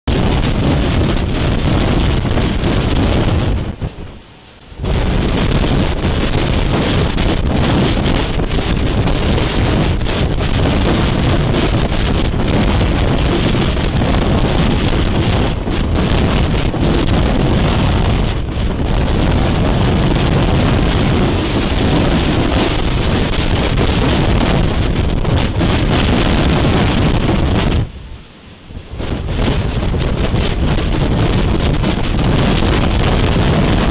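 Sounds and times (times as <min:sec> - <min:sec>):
strong wind buffeting microphone: 0:00.0 - 0:33.9.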